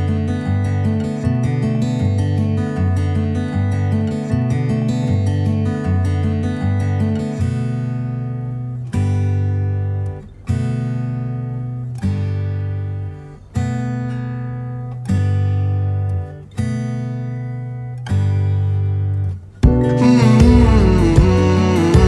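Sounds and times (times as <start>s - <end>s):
instrumental music with ringing chords: 0.0s - 22.0s.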